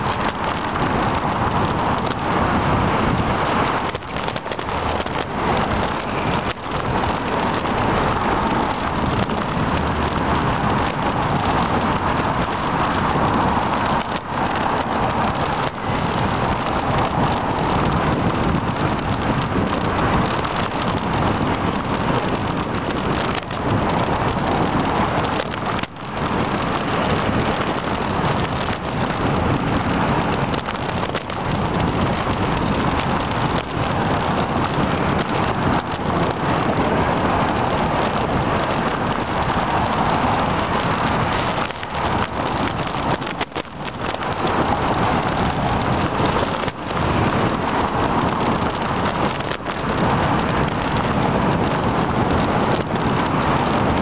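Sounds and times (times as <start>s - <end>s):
road noise from bicycle: 0.0s - 54.0s
rushing wind: 0.0s - 54.0s.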